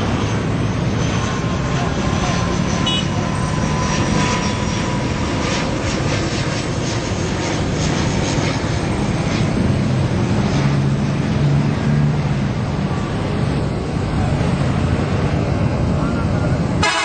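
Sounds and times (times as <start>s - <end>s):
large vehicle engine drone: 0.0s - 17.0s
road noise: 0.0s - 17.0s.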